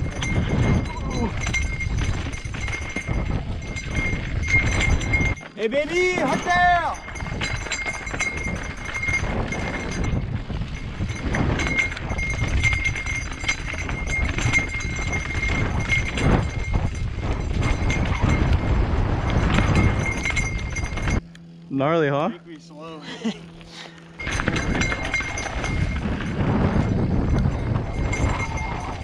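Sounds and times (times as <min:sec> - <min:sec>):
bike frame and chain knocking: 0:00.0 - 0:21.2, 0:24.2 - 0:29.0
wind on microphone: 0:00.0 - 0:21.2, 0:24.2 - 0:29.0.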